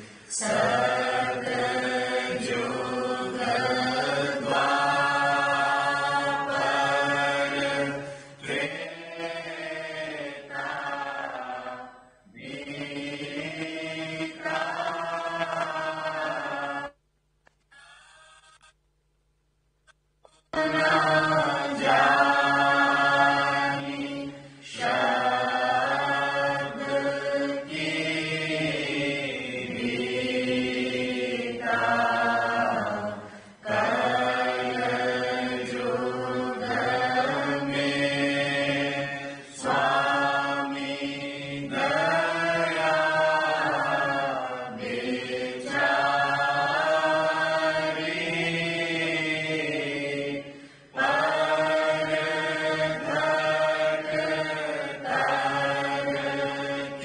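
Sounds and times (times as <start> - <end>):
group chanting in unison: 0.0 - 17.0, 20.5 - 57.0.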